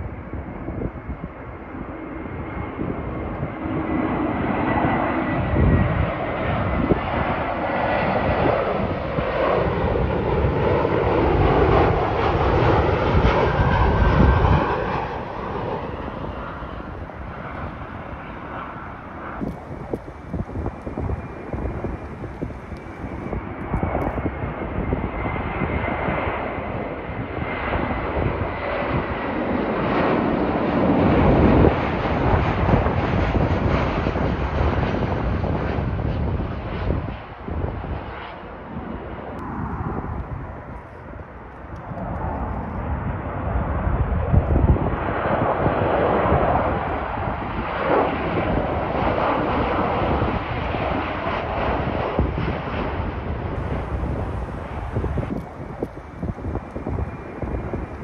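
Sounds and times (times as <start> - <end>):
jet airliner roaring overhead: 0.0 - 58.0.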